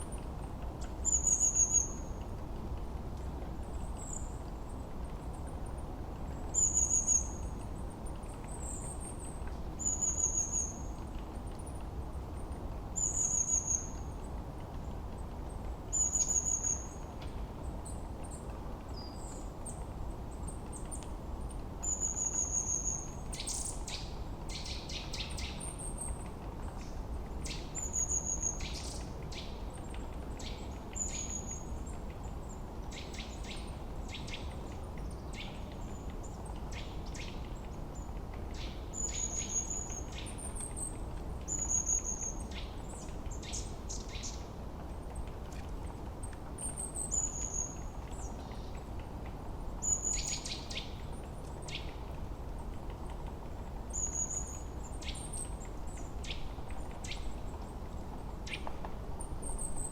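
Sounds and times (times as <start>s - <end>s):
low background hiss: 0.0s - 59.9s.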